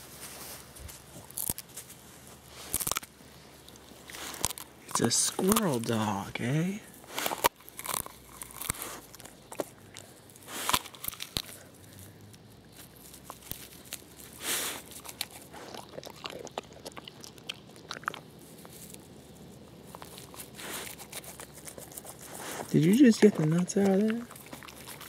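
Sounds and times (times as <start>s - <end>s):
dog crunching peanut shell: 1.0s - 25.0s.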